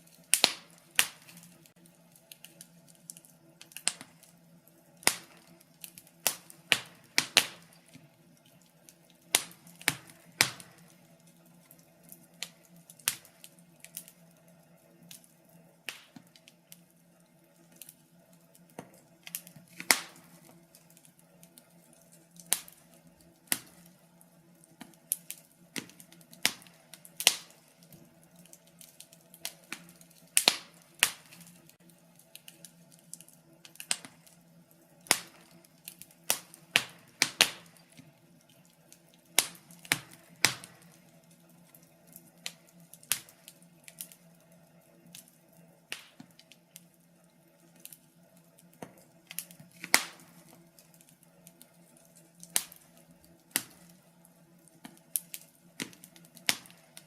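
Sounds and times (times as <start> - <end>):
faint steady hum: 0.0 - 57.0
wood fire crackling and popping: 0.0 - 57.0.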